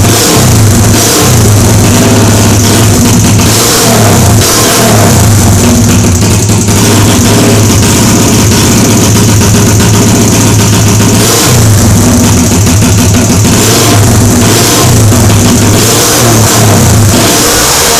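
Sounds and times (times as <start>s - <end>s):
small motorcycle engine revving: 0.0s - 17.9s.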